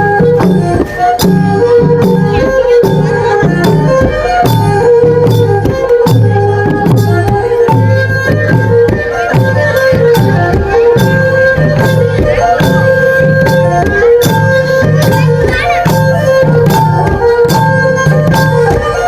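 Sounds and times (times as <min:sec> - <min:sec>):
folk music: 0:00.0 - 0:19.0
low drum beat: 0:00.0 - 0:19.0.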